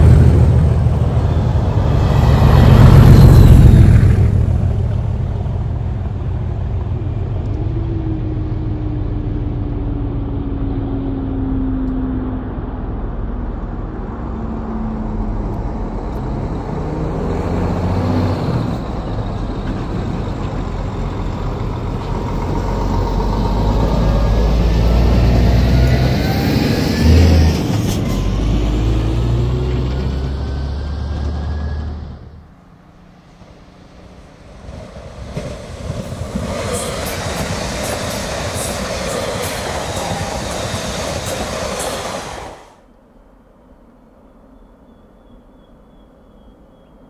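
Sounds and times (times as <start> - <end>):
lorry diesel engine passing: 0.0 - 42.9.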